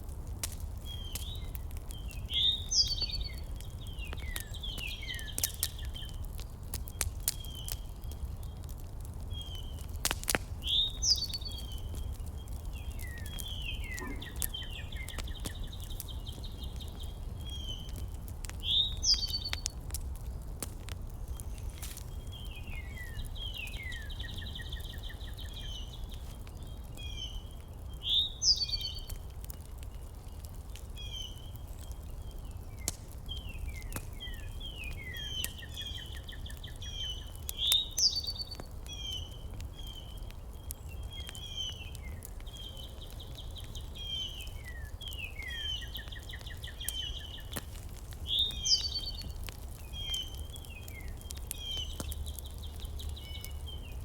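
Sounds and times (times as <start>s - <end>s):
small birds chirping and trilling: 0.5s - 54.0s.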